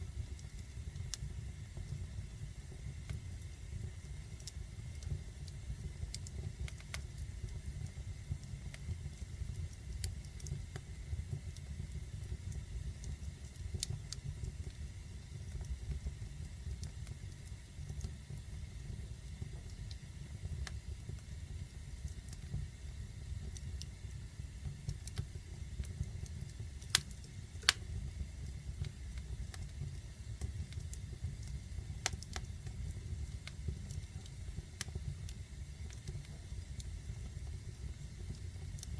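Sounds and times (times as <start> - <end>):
fire crackling: 0.0 - 38.9
low fire rumble: 0.0 - 38.9.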